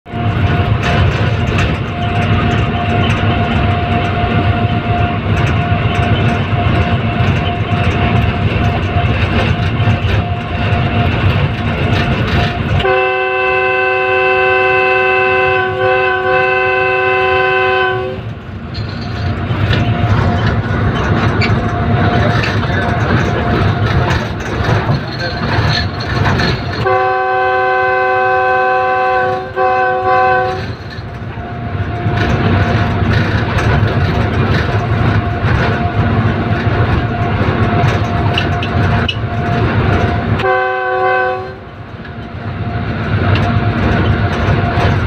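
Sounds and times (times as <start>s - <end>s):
locomotive rumble: 0.0s - 45.0s.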